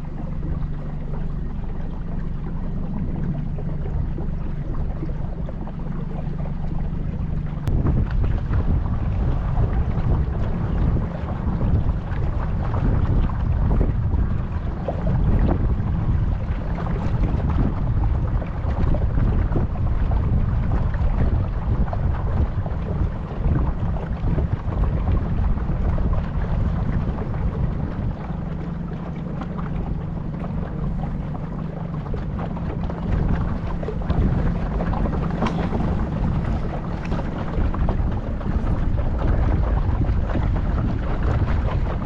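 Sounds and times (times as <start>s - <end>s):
motor boat hum: 0.0s - 42.0s
wind buffeting microphone: 0.0s - 42.0s.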